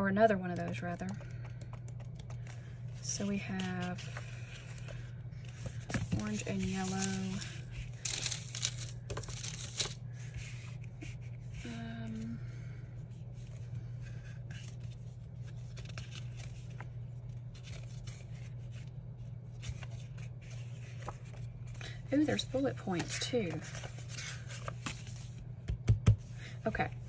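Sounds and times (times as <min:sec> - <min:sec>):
paper rustling and crinkling: 0:02.4 - 0:12.3, 0:13.3 - 0:25.4.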